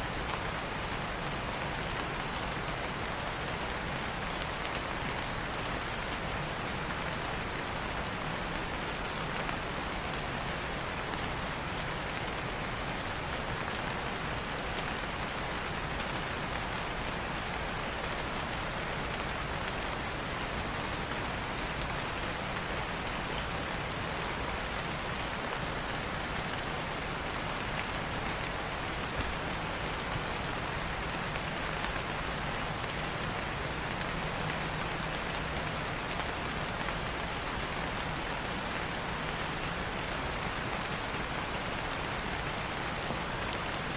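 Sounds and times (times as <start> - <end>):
rain falling on leaves: 0.0 - 43.9.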